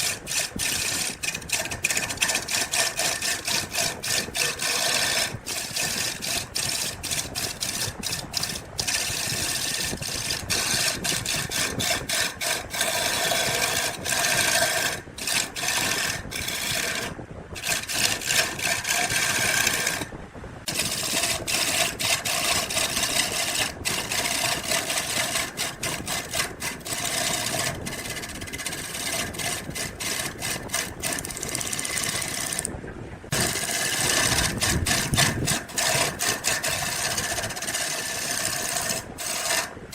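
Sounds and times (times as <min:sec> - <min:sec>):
power tool working wood: 0:00.0 - 0:20.1, 0:20.7 - 0:32.7, 0:33.3 - 0:39.8.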